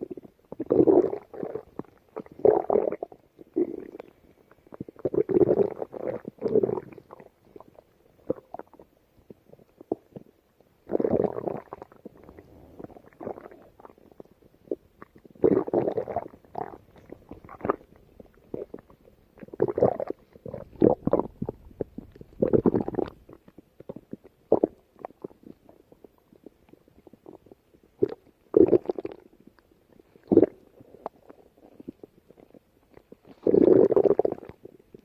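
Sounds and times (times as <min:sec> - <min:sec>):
stomach growling: 0:00.0 - 0:35.0.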